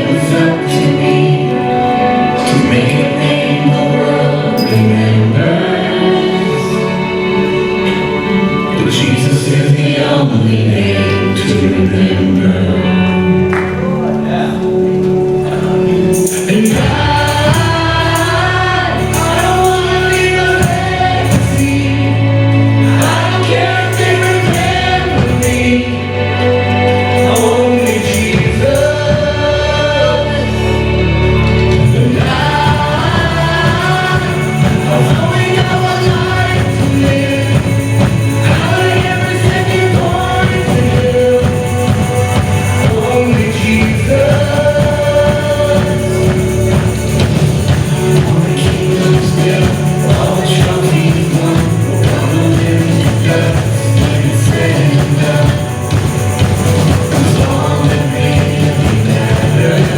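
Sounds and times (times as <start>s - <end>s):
choir singing gospel song: 0.0s - 59.9s
sustained bass notes: 0.0s - 59.9s.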